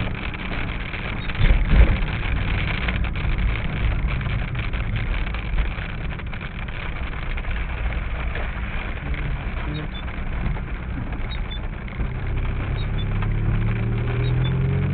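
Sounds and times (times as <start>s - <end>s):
engine and tyres rumbling: 0.0s - 14.9s
rain pattering on windshield: 0.0s - 14.9s.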